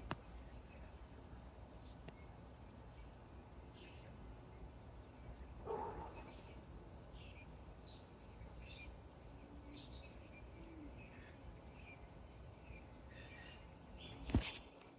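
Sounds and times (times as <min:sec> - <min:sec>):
songbirds chirping faintly: 0:00.0 - 0:14.9.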